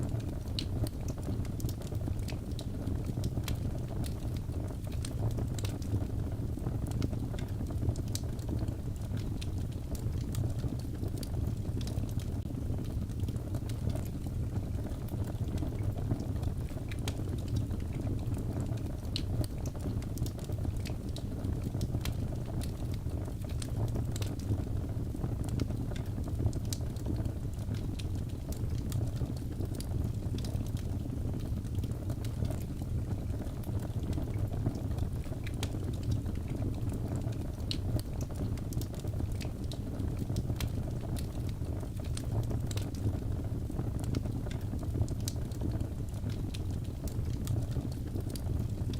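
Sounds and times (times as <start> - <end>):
logs crackling and popping: 0.0 - 48.9
low rumble of flame: 0.0 - 48.9.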